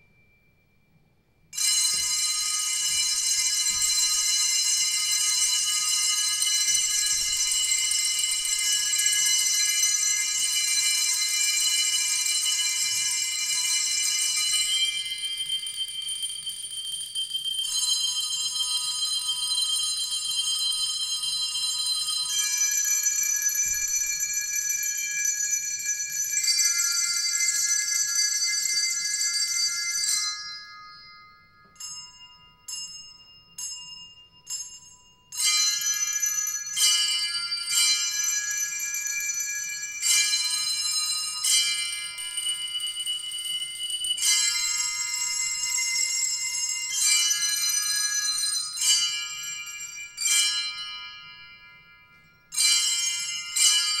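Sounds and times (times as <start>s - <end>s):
bell-like metal percussion ringing: 1.5s - 54.0s.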